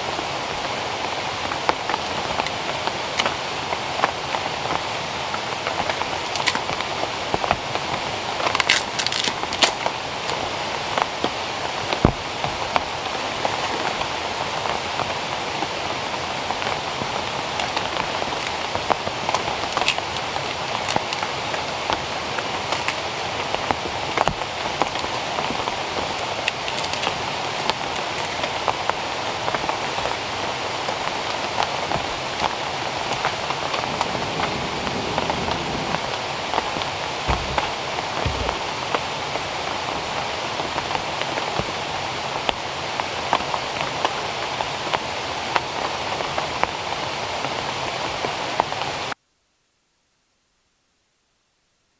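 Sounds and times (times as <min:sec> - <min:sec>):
falling water hiss: 0:00.0 - 0:49.2.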